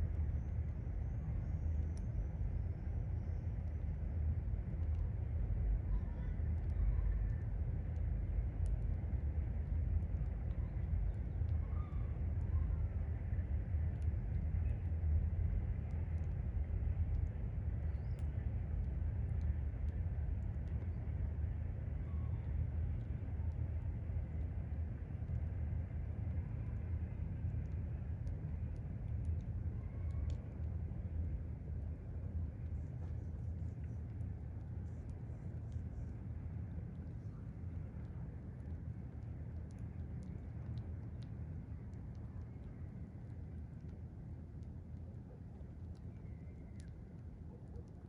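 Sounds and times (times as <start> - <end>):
faint ticks: 0.0 - 48.0.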